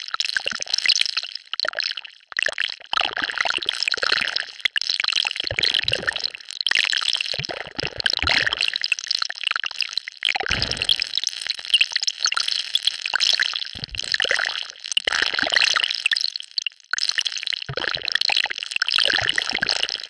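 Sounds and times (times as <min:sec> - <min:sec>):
wet bubbling crackle: 0:00.2 - 0:20.0.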